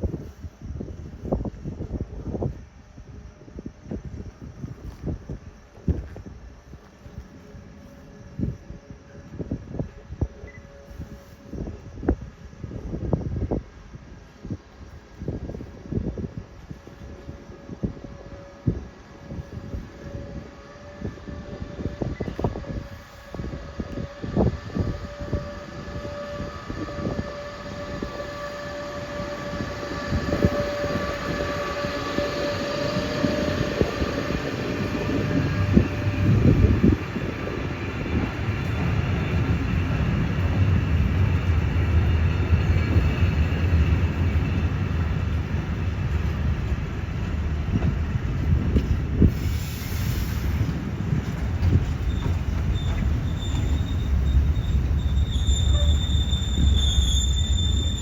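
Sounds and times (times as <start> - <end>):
train running on rails: 0.0 - 58.0.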